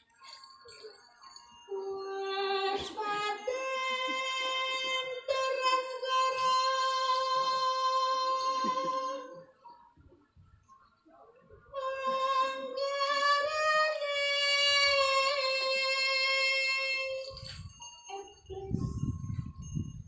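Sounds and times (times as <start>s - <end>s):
high singing voice: 0.0s - 10.1s, 11.4s - 20.0s.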